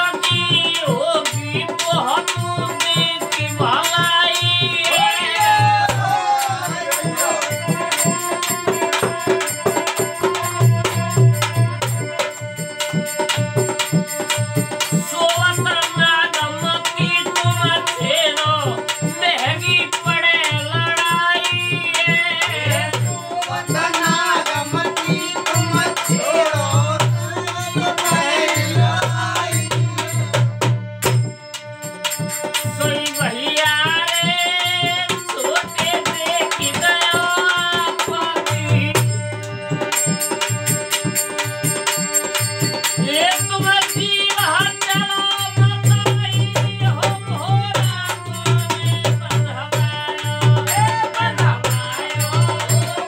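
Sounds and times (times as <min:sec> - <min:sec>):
drum beating: 0:00.0 - 0:53.0
harmonium: 0:00.0 - 0:53.0
man singing: 0:00.0 - 0:53.0.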